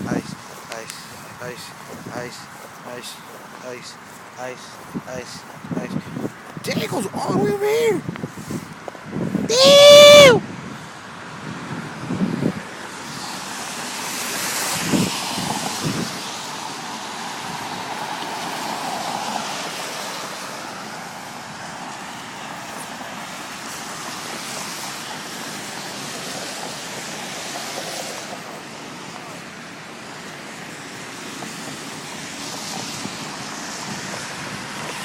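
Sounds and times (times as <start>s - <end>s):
outdoor rushing noise: 0.0s - 35.0s.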